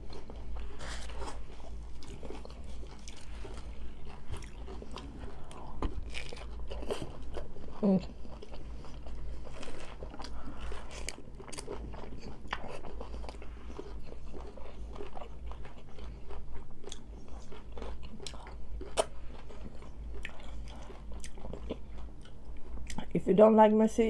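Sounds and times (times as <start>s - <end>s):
crunchy tacos being chewed: 0.0s - 23.2s.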